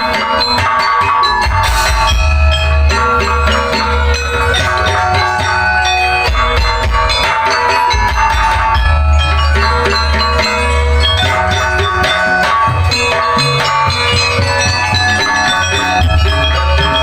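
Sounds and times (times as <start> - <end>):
hand drumming: 0.0 - 17.0
mallet percussion: 0.0 - 17.0
booming bass: 1.2 - 17.0.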